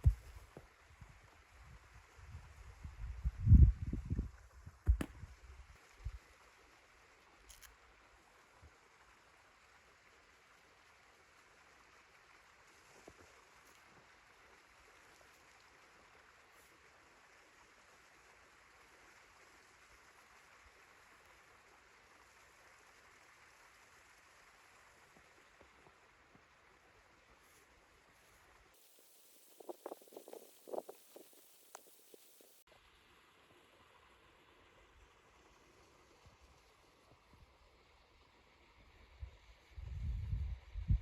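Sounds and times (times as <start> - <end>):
faint steady hiss: 0.0 - 41.0.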